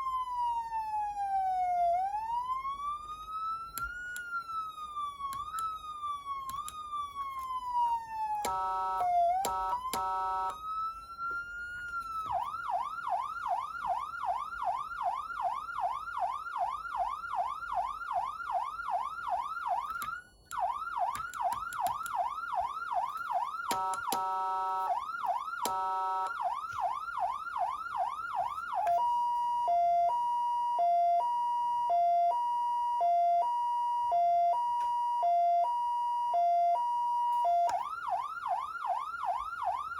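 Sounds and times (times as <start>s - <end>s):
electronic siren: 0.0s - 39.9s.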